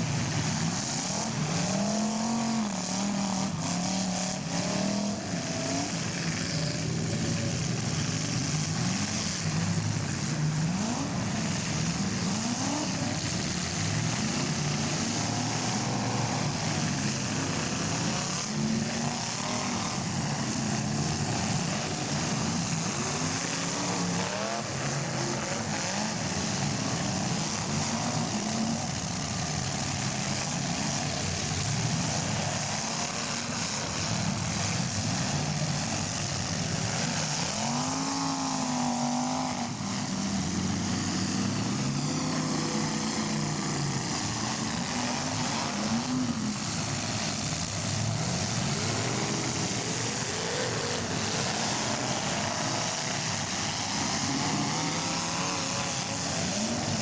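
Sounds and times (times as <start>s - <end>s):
car engines revving: 0.0s - 57.0s
crowd noise: 0.0s - 57.0s.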